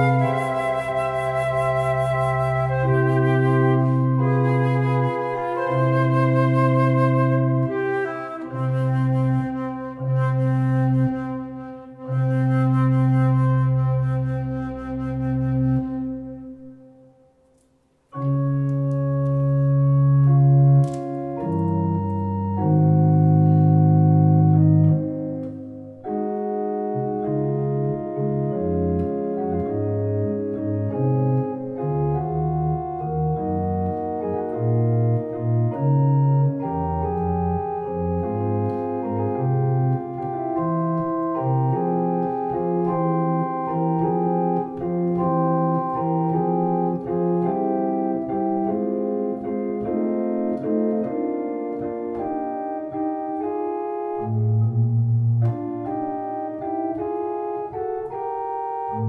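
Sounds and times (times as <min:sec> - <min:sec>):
electronic organ playing chords: 0:00.0 - 0:59.0.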